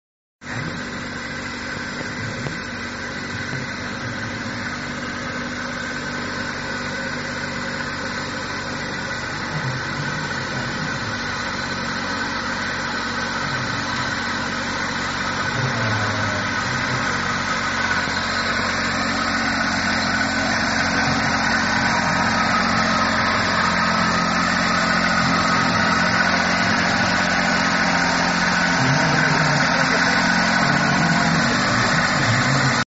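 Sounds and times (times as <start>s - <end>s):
tractor diesel engine running: 0.4s - 32.9s.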